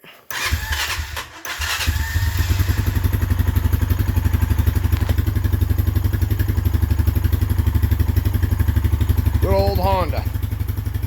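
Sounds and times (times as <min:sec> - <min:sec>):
atv engine starting and idling: 0:00.3 - 0:11.0.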